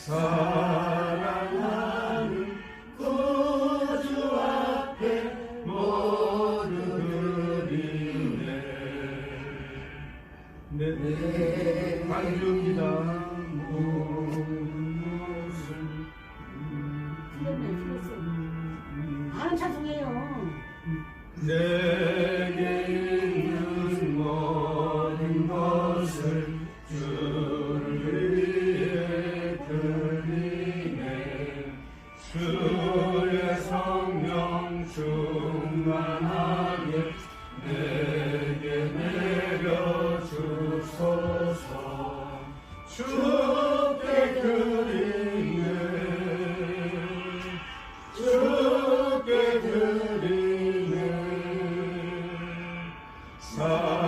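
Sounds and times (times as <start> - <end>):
voices singing a hymn: 0.0 - 54.0.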